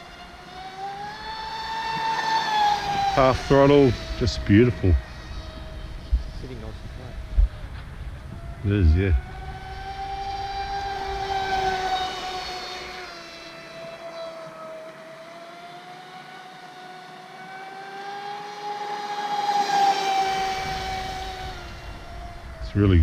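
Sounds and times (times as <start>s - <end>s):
toy boat motor whining: 0.0s - 6.7s, 8.4s - 22.6s.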